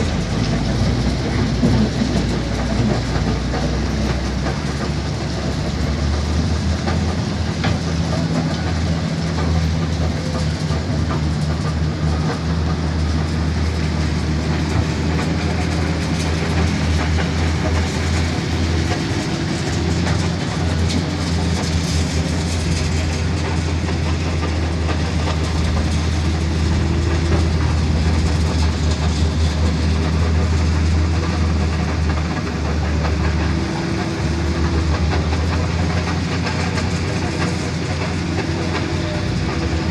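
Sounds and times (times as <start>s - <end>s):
diesel truck engine humming: 0.0s - 39.9s.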